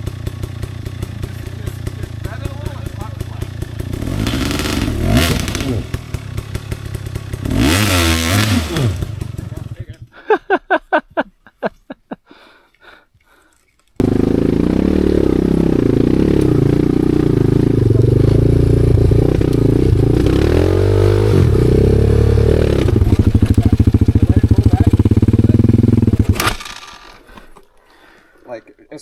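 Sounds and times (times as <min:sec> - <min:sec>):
motorcycle engine running: 0:00.0 - 0:10.0, 0:14.0 - 0:27.3.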